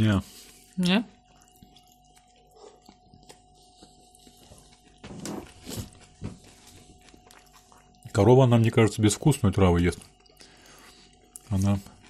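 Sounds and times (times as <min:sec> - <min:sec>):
chewing and biting food: 0:00.4 - 0:12.0.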